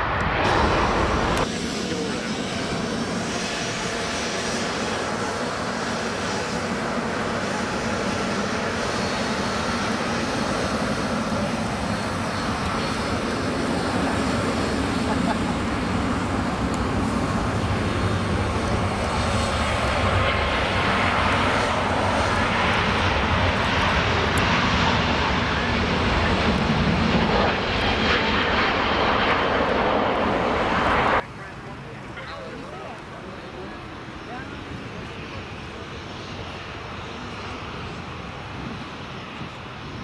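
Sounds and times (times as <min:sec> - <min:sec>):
airliner engines running: 0:00.0 - 0:40.0.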